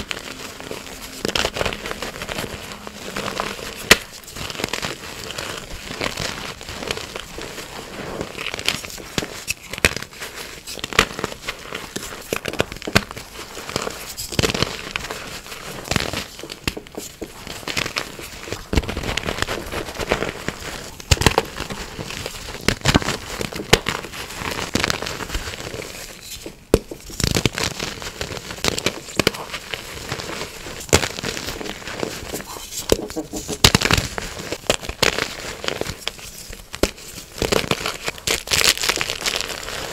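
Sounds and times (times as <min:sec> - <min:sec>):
chalk crunching: 0:00.0 - 0:26.5, 0:27.5 - 0:39.9.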